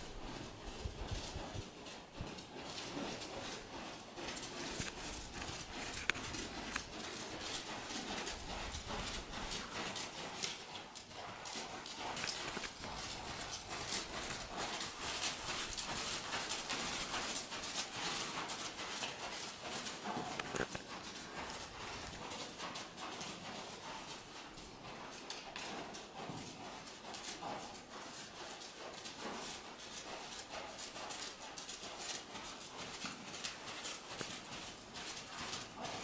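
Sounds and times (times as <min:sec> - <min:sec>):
horse hoofbeats on sand: 0:00.0 - 0:36.0.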